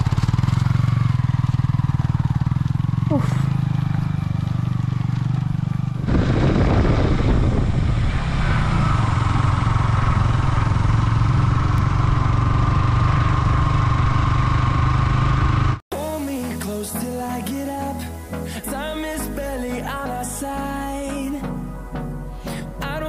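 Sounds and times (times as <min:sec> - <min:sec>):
motorcycle engine running: 0:00.0 - 0:21.2.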